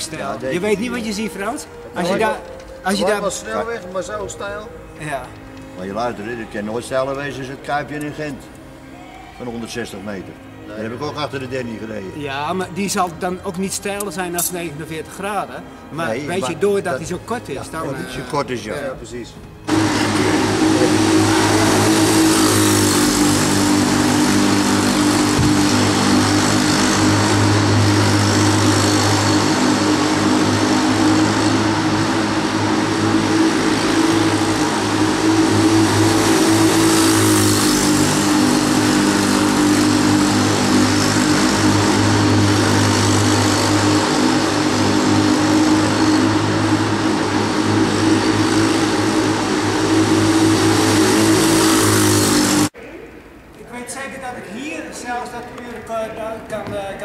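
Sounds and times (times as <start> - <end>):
small motorbike engine droning: 0.0 - 52.8.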